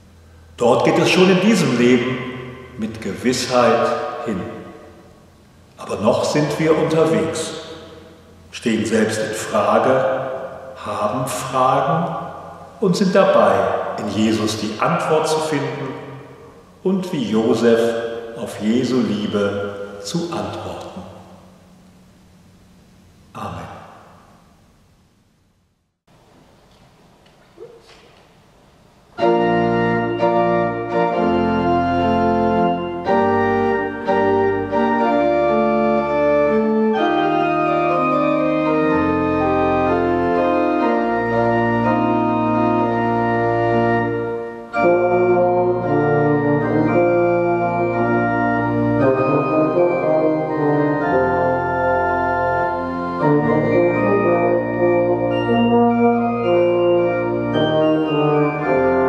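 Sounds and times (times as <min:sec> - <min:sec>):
organ and euphonium playing: 0:00.0 - 0:21.4, 0:29.1 - 0:59.0.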